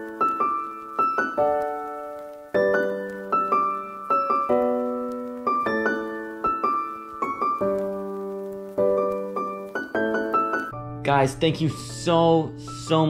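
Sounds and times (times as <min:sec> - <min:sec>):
piano chords and notes: 0:00.0 - 0:13.0.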